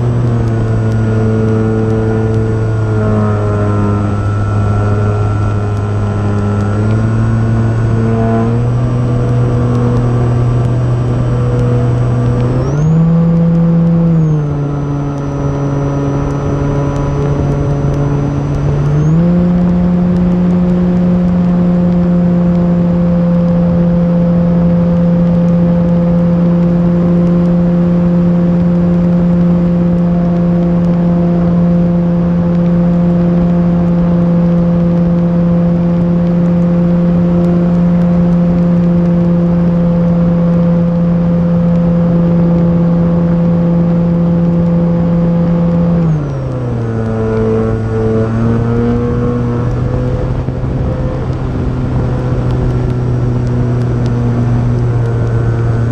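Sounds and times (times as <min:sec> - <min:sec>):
electric motor and propeller humming: 0:00.0 - 0:55.9.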